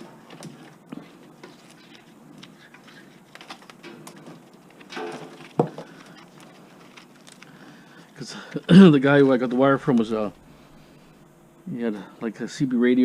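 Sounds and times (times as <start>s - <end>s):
cable rustling: 0.0s - 11.3s.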